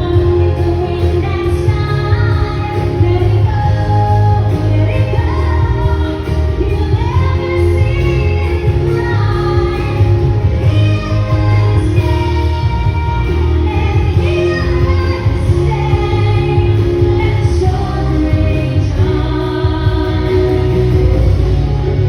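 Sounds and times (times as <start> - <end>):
heavy steady bass: 0.0 - 22.0.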